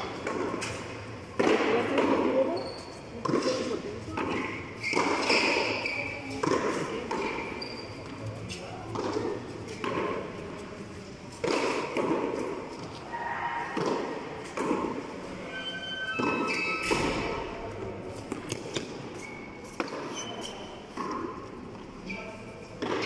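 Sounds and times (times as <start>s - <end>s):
sneakers squeaking on floor: 0.0s - 10.7s, 11.4s - 23.0s.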